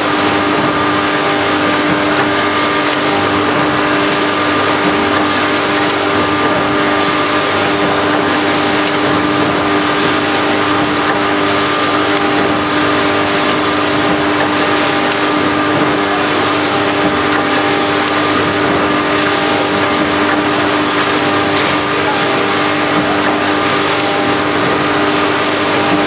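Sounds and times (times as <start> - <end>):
packing machine motor hum: 0.0 - 26.0
cyclic machine hiss: 2.5 - 26.0.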